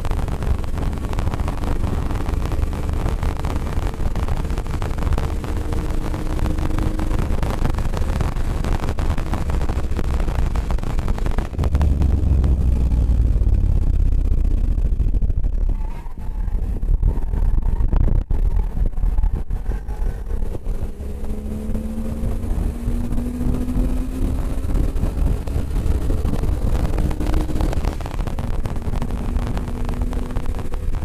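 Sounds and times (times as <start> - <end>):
car engine under load: 0.0 - 31.0
road and wind rumble: 0.0 - 31.0.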